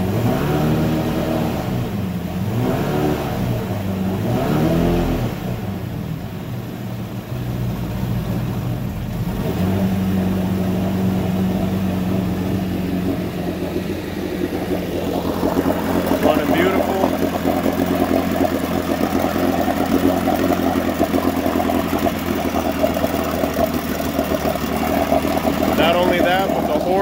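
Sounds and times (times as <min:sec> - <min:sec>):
outboard motor revving and idling: 0:00.0 - 0:27.0.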